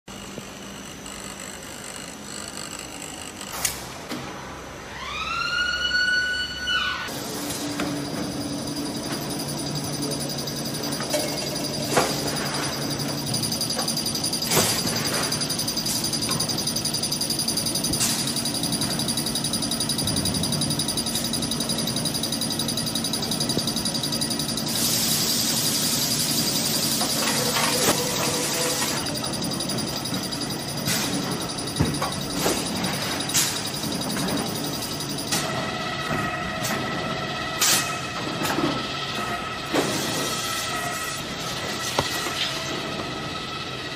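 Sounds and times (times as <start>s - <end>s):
machinery hum and whine: 0.1s - 43.9s.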